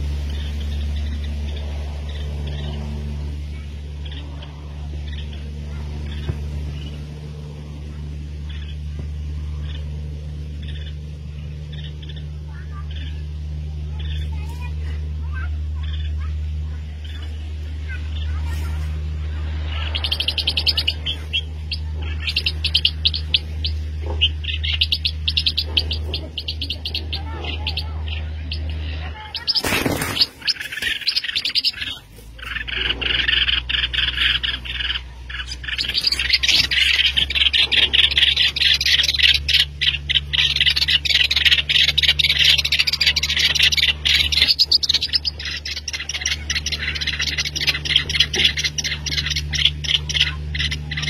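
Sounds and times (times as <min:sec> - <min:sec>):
songbirds chirping rapidly: 0:00.0 - 0:51.0
steady low hum: 0:00.0 - 0:51.0.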